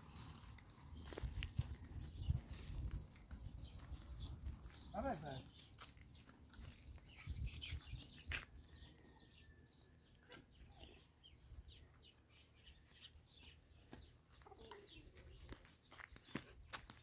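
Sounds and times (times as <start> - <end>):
footsteps on a dirt path: 0.0 - 9.4, 10.5 - 17.0
small birds chirping: 0.0 - 17.0.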